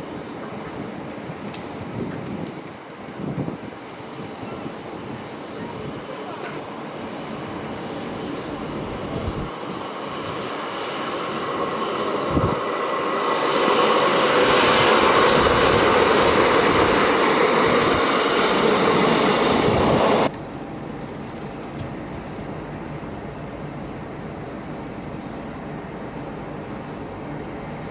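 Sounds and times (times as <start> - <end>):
train passing: 0.0 - 27.9.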